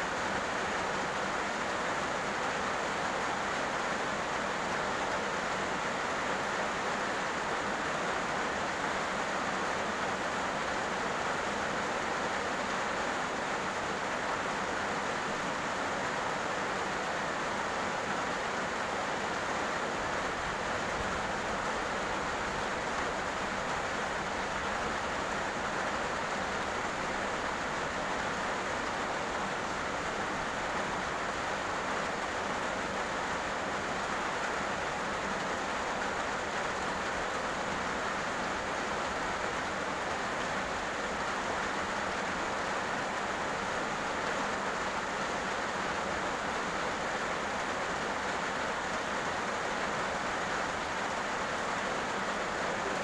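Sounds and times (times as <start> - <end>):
heavy rain on a road: 0.0 - 53.0.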